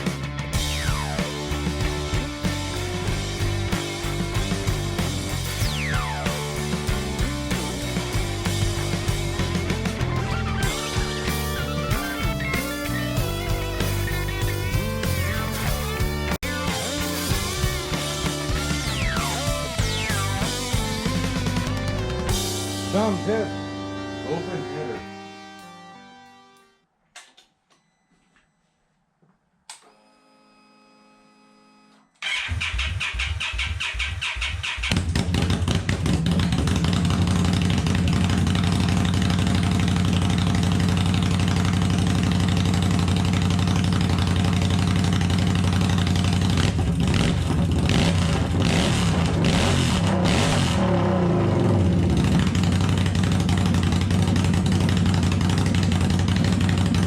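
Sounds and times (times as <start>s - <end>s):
motorcycle engine running loud: 0.0s - 23.4s, 32.2s - 57.0s.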